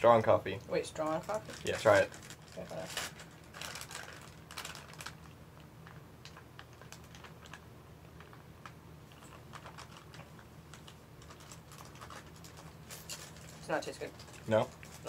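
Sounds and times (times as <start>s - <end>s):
utensils and food packets clicking: 1.1s - 7.6s, 8.2s - 15.0s.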